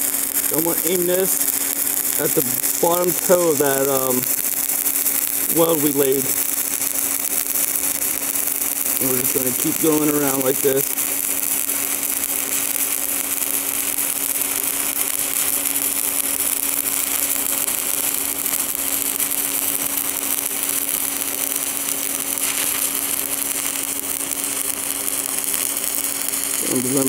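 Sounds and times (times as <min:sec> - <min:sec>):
steady hum: 0:00.0 - 0:27.0
welding arc crackling: 0:00.0 - 0:27.0.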